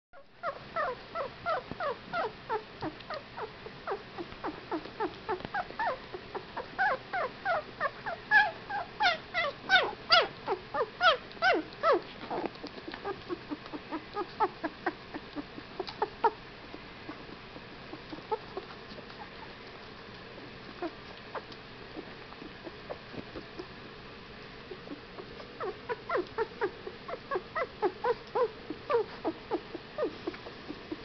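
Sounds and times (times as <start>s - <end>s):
puppies whimpering and squeaking: 0.2s - 19.6s, 20.4s - 23.9s, 24.6s - 31.0s.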